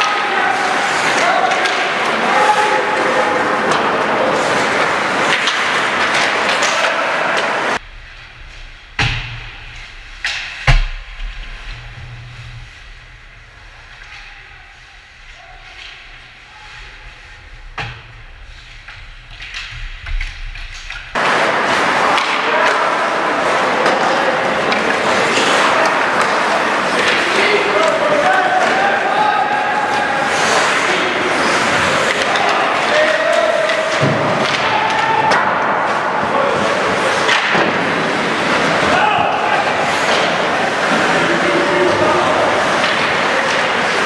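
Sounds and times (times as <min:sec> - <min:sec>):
pucks and sticks knocking boards: 0:00.0 - 0:29.1, 0:29.7 - 0:44.0
loud dense noise: 0:00.0 - 0:44.0.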